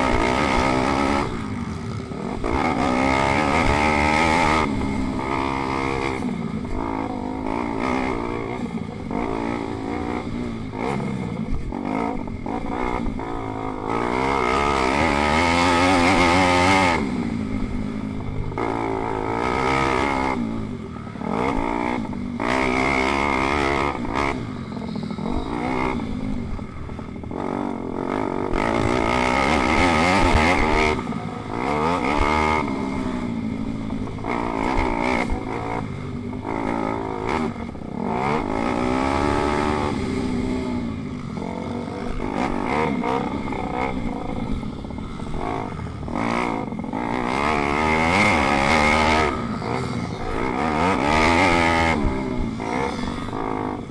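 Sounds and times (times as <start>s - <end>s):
pit bike engines revving: 0.0s - 53.9s.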